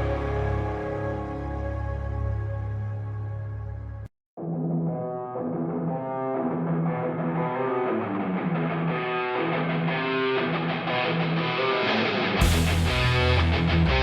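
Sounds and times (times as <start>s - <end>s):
picked guitar music: 0.0s - 3.8s, 4.7s - 14.0s.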